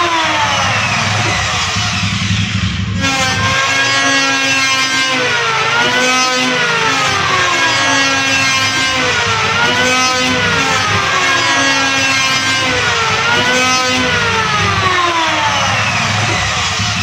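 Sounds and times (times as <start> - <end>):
electric planer whining: 0.0 - 17.0.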